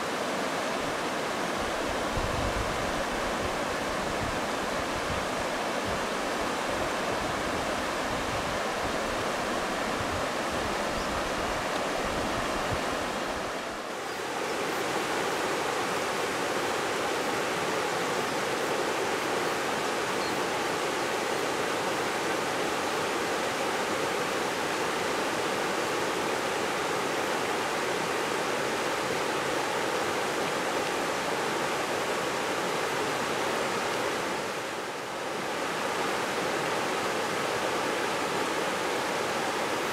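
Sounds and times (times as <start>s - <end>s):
river water rushing over rapids: 0.0s - 39.9s.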